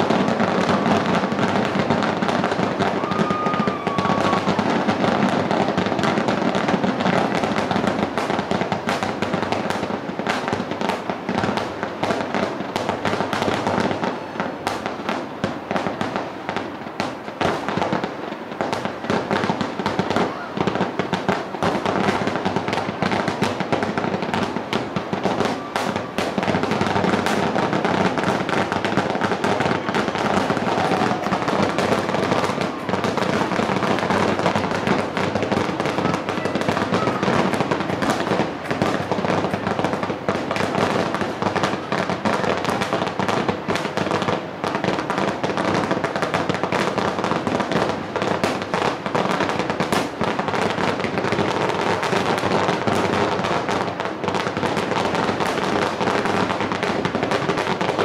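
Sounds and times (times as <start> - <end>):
fireworks bursting: 0.0 - 58.0.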